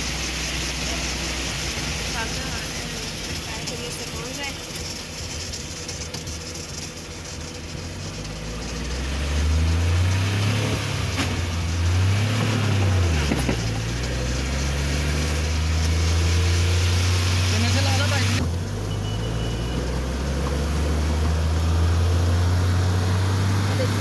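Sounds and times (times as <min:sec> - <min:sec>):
car engine hum: 0:00.0 - 0:24.0
tyres hissing on wet road: 0:00.0 - 0:24.0.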